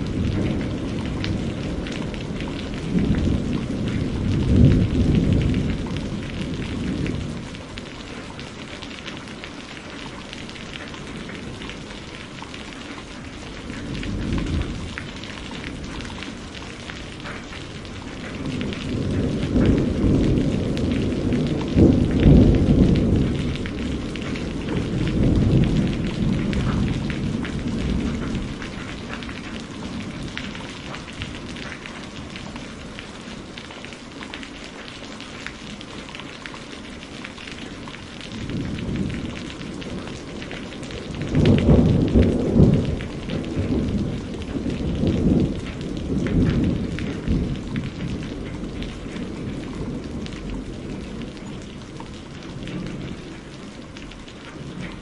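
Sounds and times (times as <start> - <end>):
thunder rumbling: 0.0 - 33.6, 36.9 - 55.0
steady rain: 0.0 - 55.0.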